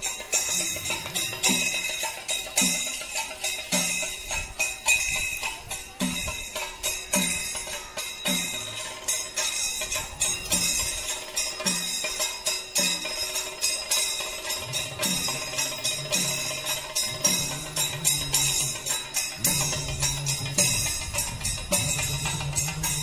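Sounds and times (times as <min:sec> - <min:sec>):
percussion beat with jingling: 0:00.0 - 0:23.0.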